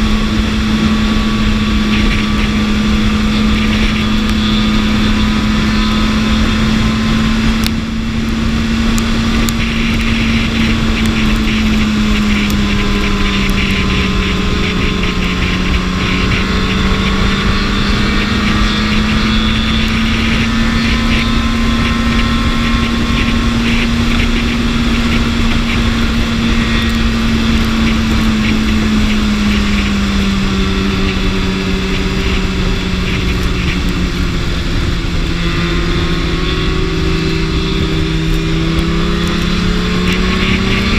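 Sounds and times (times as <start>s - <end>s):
motorcycle engine cruising: 0.0s - 40.9s
wind rush: 0.0s - 40.9s.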